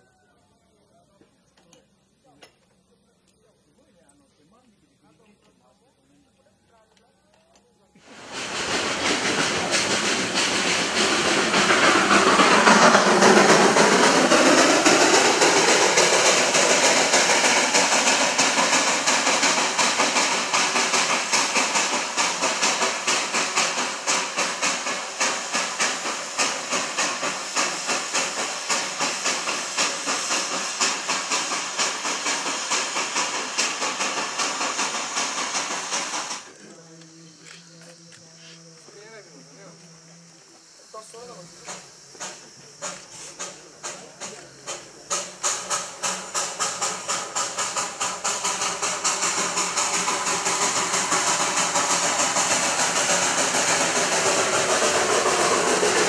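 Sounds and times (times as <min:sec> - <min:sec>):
steam hissing: 0:08.0 - 0:56.0
steam locomotive exhaust beats: 0:08.0 - 0:56.0.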